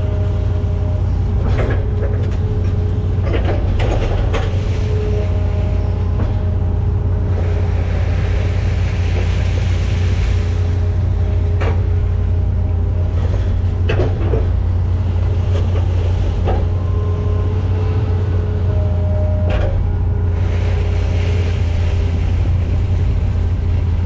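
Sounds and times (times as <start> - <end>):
excavator diesel engine running: 0.0 - 24.0
hydraulic whining: 0.0 - 24.0.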